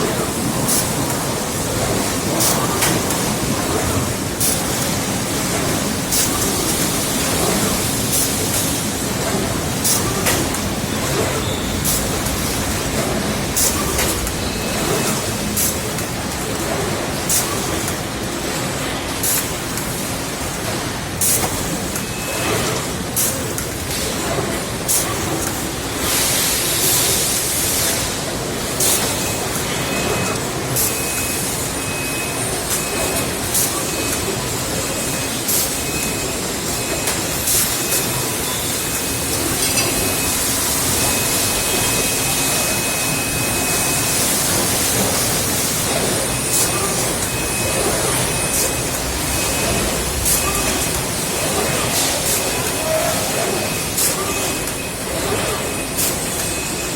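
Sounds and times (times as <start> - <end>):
factory machinery din: 0.0 - 56.9.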